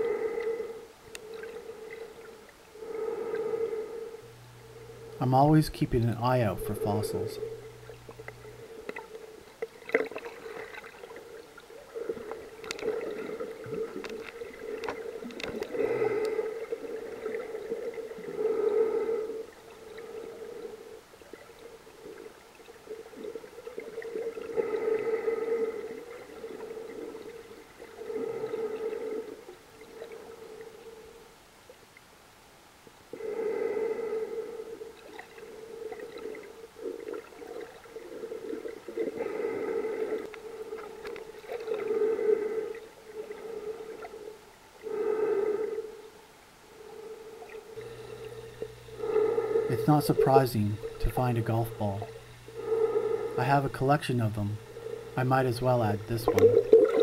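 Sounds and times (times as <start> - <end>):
underwater hum: 0.0 - 57.0.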